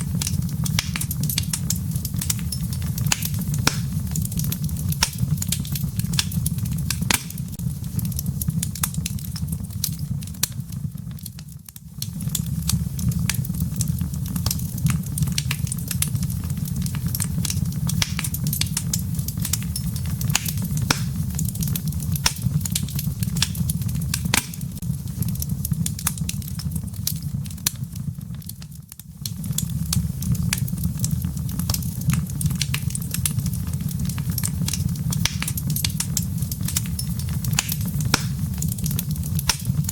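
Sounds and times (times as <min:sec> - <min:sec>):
logs crackling and popping: 0:00.0 - 0:39.9
low rumble of fire: 0:00.0 - 0:39.9.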